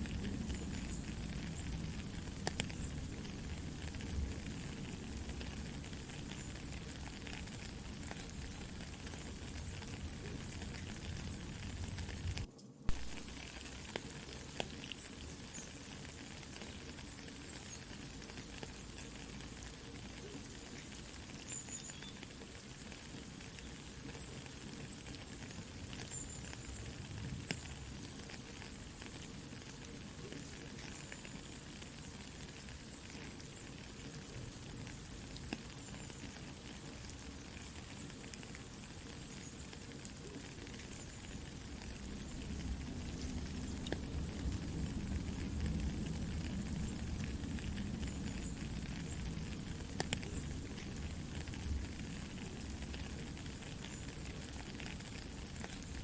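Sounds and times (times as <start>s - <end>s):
campfire crackling: 0.0s - 56.0s
soft rain pattering: 0.0s - 56.0s.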